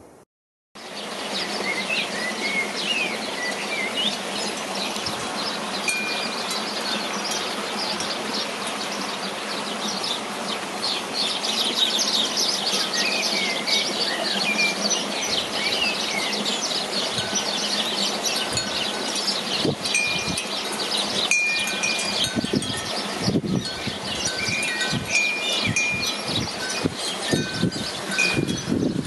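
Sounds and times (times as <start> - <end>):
small birds chirping: 0.8 - 29.0
whistled bird notes: 1.3 - 29.0.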